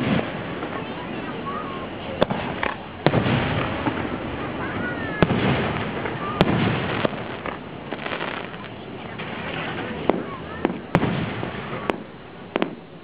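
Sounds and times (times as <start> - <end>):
firework shells bursting: 0.0 - 0.9, 1.8 - 13.0
rumble of fireworks display: 0.0 - 13.0.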